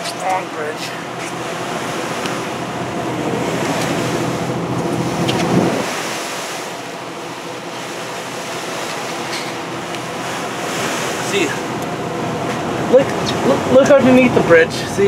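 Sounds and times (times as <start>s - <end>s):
boat engine drone: 0.0s - 15.0s
wind and water rushing: 0.0s - 15.0s.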